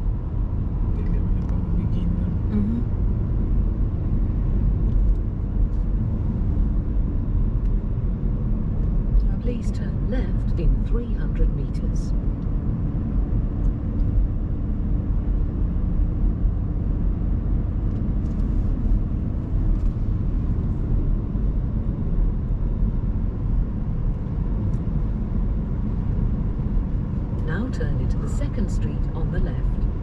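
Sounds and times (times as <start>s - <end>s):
car interior driving rumble: 0.0s - 30.0s.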